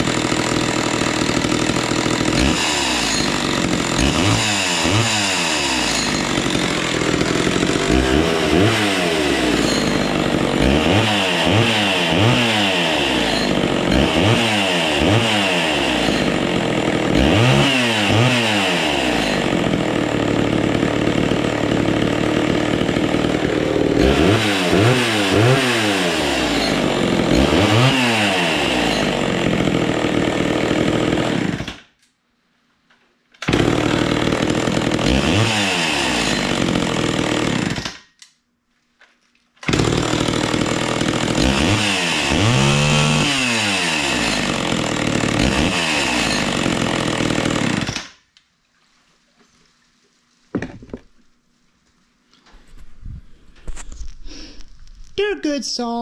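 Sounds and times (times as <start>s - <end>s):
chainsaw idling and revving: 0.0s - 31.9s, 33.4s - 38.1s, 39.6s - 48.2s.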